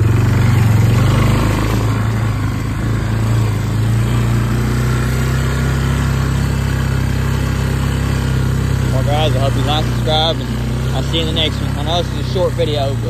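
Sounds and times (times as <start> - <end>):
quad bike engine running: 0.0 - 13.0
water splashing around wheels: 0.0 - 13.0.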